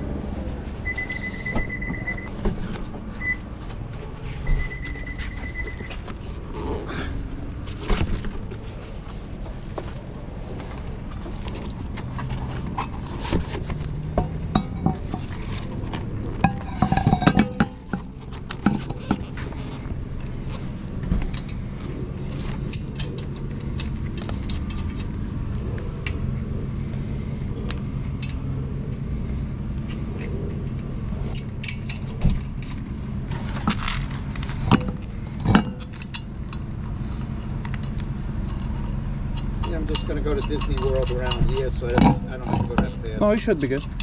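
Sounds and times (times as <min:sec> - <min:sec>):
steady low hum: 0:00.0 - 0:44.0
metal tools clinking and scraping: 0:00.8 - 0:44.0.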